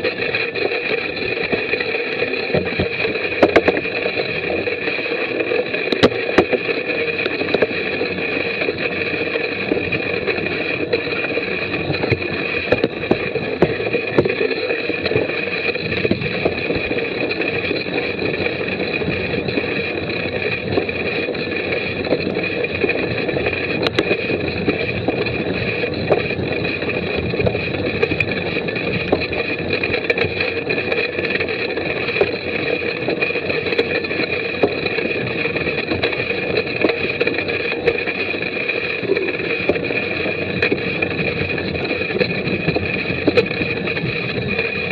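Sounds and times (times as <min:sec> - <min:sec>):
bike tyres and frame rattling: 0:00.0 - 0:44.9.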